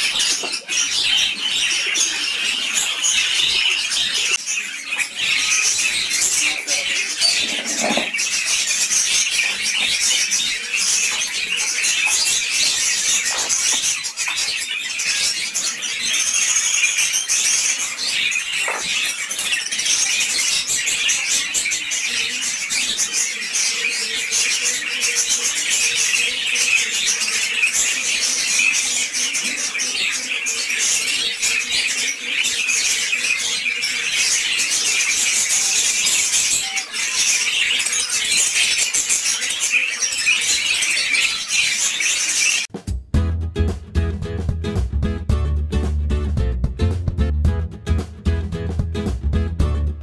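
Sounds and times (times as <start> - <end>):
many birds chirping: 0.0 - 42.7.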